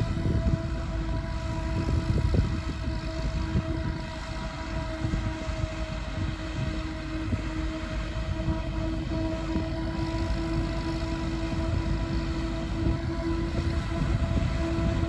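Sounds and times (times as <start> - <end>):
distant harvester droning whine: 0.0 - 15.0
wind buffeting microphone: 0.0 - 15.0.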